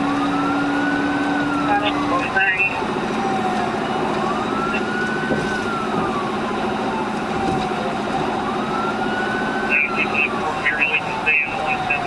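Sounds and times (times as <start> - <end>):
police siren wailing: 0.0 - 12.0
road and engine noise: 0.0 - 12.0.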